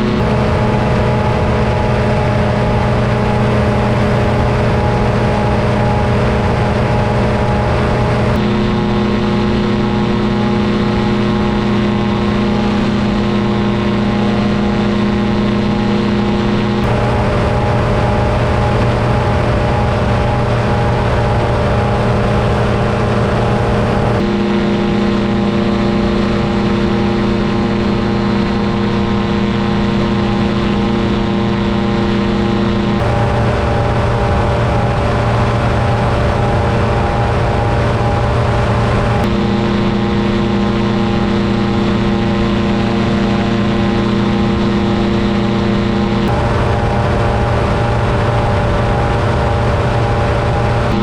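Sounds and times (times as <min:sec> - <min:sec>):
paramotor engine and propeller: 0:00.0 - 0:51.0.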